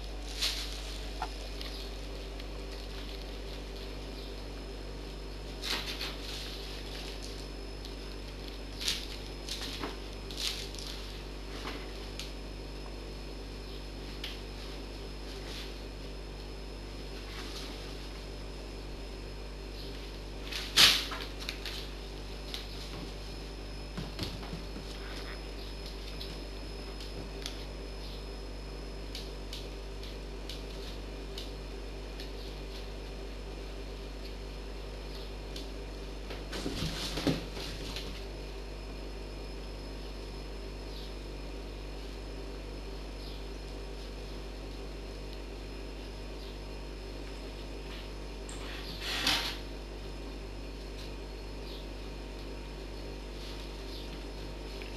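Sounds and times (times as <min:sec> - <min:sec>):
low room hum: 0:00.0 - 0:54.9.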